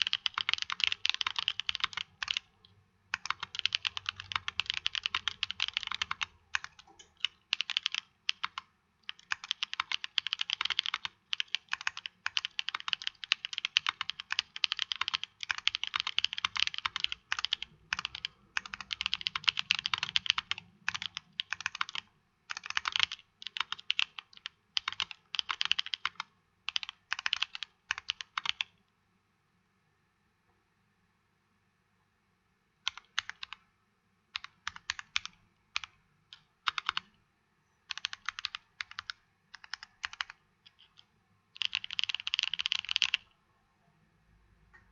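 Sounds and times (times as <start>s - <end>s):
mechanical keyboard typing: 0.0s - 28.7s, 32.8s - 33.6s, 34.4s - 37.1s, 37.9s - 43.3s.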